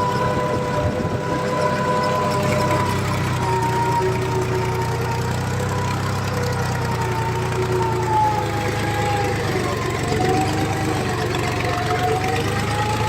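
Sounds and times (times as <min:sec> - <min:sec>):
tractor diesel engine droning: 0:00.0 - 0:13.0
wavering sliding tone: 0:00.0 - 0:13.0.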